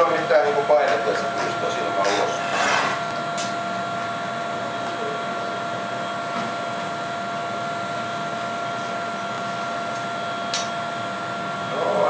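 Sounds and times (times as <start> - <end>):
constant hums: 0.0 - 12.0
furnace roaring: 0.0 - 12.0.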